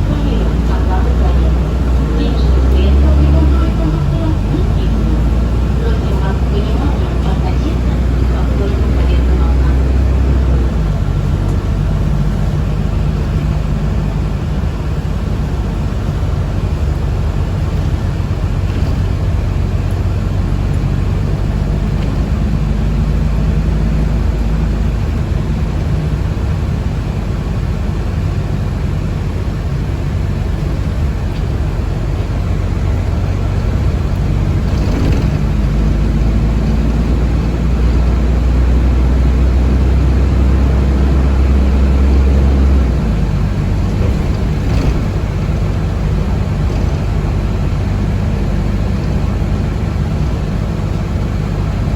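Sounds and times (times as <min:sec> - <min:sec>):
bus interior rumble: 0:00.0 - 0:51.9.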